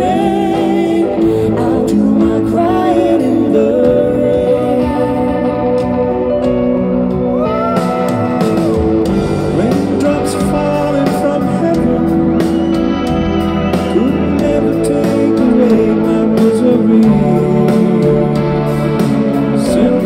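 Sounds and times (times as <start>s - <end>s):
people singing: 0.0s - 6.1s, 9.1s - 20.0s
keyboards: 0.0s - 20.0s
live pop band playing: 0.0s - 20.0s.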